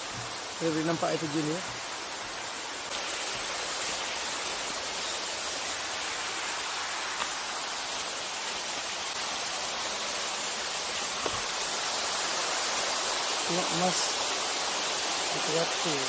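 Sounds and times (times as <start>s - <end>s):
high-pitched insect drone: 0.0s - 16.0s
waterfall rushing: 0.0s - 16.0s.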